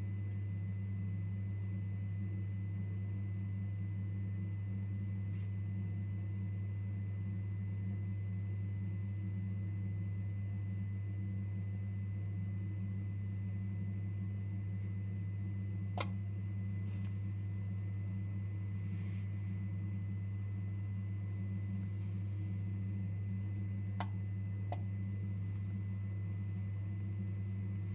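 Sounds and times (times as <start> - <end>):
low electrical hum: 0.0 - 27.9.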